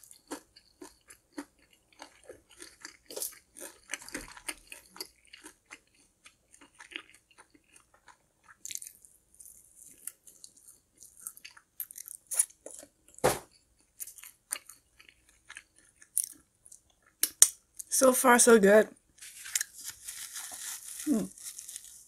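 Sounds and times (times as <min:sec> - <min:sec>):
chewing with crisp crunches: 0:00.0 - 0:17.9, 0:19.3 - 0:22.0.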